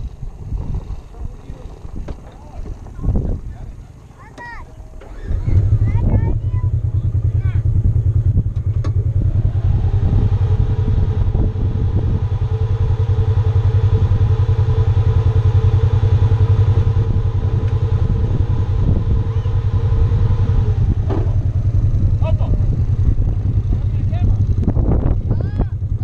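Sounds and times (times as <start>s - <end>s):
engine idling low rumble: 0.0s - 26.0s
steady higher hum: 0.0s - 26.0s.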